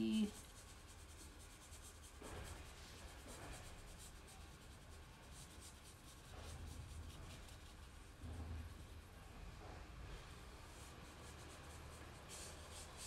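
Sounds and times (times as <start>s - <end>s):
paintbrush scratching across paper: 0.0s - 13.0s.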